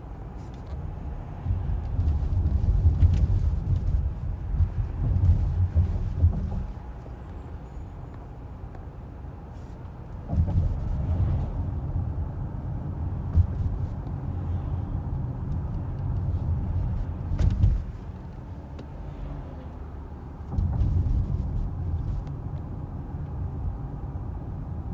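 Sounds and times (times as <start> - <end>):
car engine and road rumble: 0.0 - 24.9.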